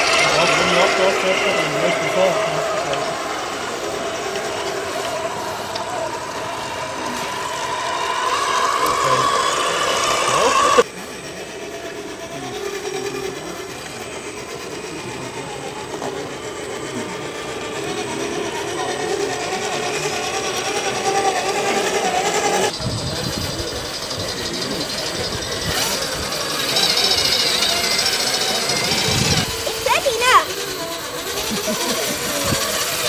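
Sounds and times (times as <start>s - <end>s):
electric motor whine: 0.0s - 33.0s.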